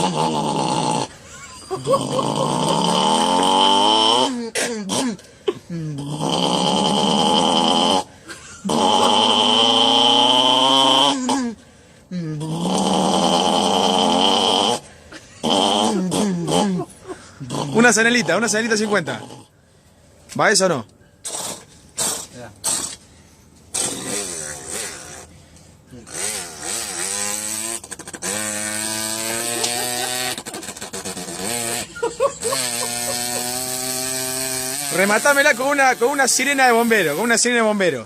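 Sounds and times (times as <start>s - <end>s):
man imitating car engine: 0.0s - 19.5s, 23.7s - 25.3s, 25.9s - 37.7s.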